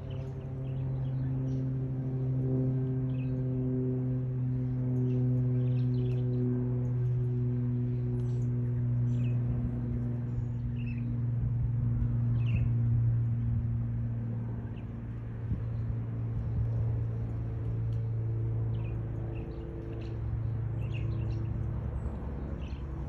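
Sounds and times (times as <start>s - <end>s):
loud low droning hum: 0.0s - 23.0s.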